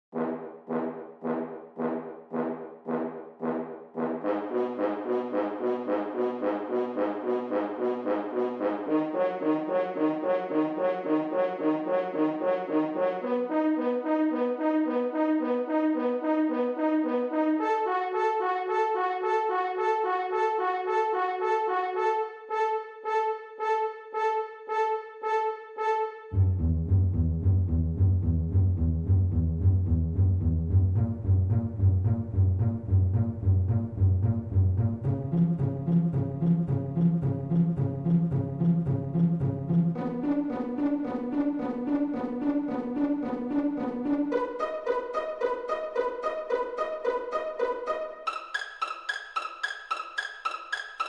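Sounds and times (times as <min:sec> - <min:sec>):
brass-like music vamp: 0:00.1 - 0:48.6.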